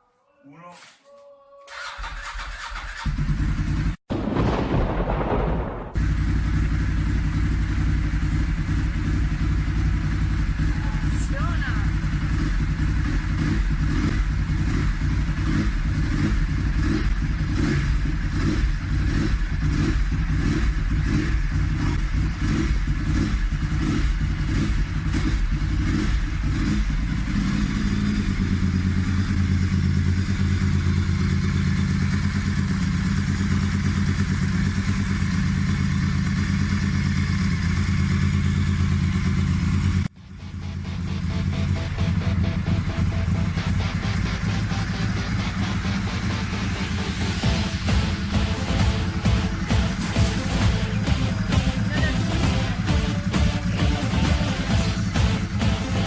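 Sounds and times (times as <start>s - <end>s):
motorcycle engine idling: 1.7s - 4.0s, 6.0s - 56.0s.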